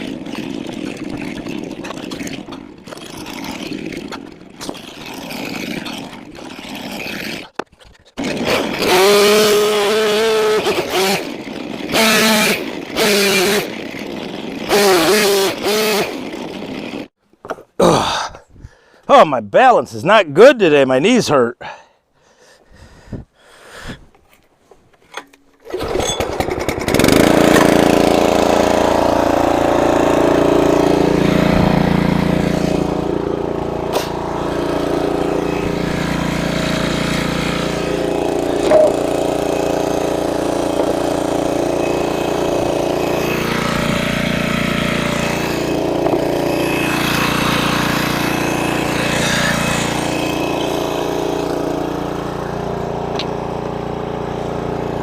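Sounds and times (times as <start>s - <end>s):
tractor engine starting and running: 0.0s - 18.2s, 24.0s - 55.0s.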